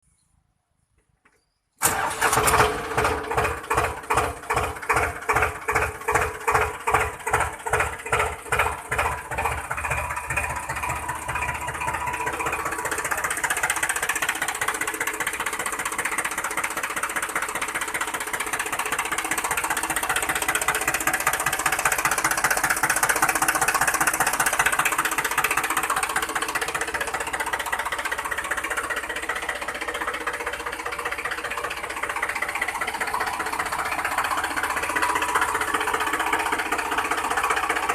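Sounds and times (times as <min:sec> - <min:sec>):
model tractor motor running: 0:01.8 - 0:37.9.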